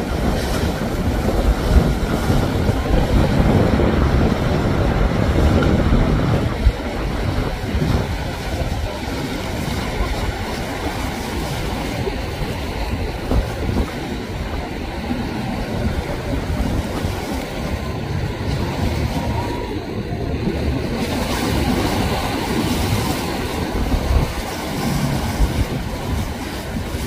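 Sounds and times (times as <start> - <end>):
heavy low rumble: 0.0 - 27.0
surf breaking around yacht hull: 0.0 - 27.0.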